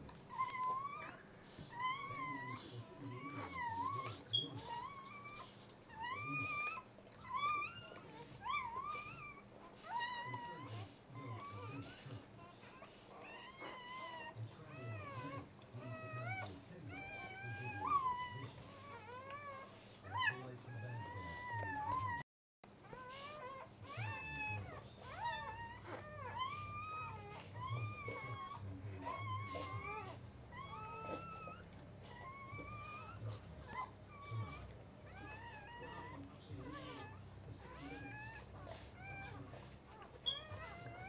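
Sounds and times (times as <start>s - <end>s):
puppy crying: 0.0s - 22.2s, 22.8s - 41.0s.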